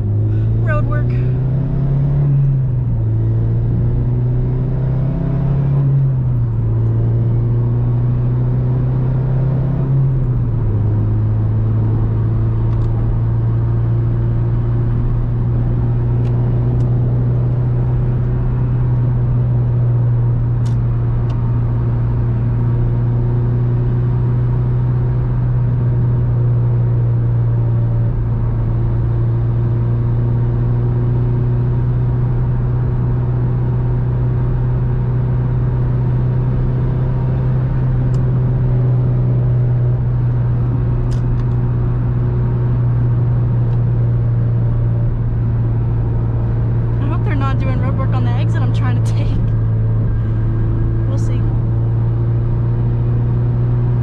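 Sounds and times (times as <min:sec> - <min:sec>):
car engine droning: 0:00.0 - 0:54.0.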